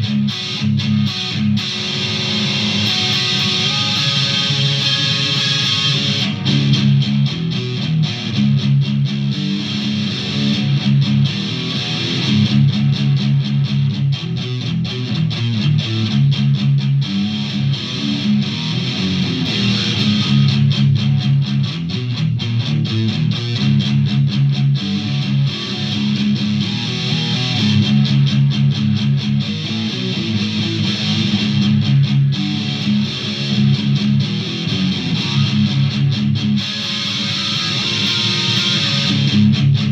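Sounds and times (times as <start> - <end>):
electric guitar riffing: 0.0 - 39.9.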